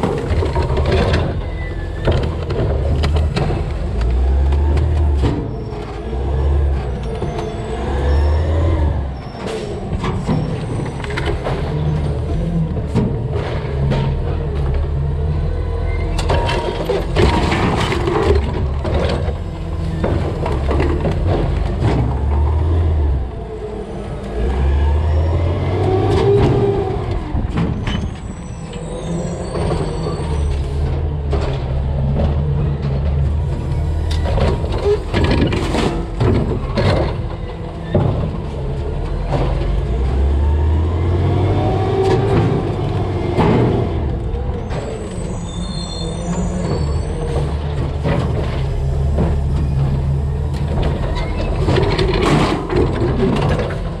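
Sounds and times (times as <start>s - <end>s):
garbage truck engine: 0.0s - 54.0s.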